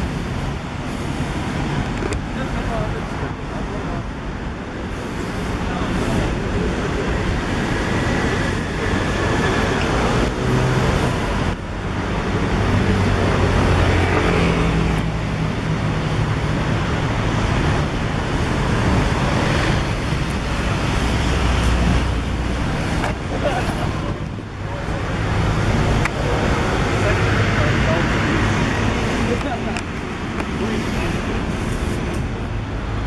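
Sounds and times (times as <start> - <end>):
traffic passing: 0.0 - 33.0.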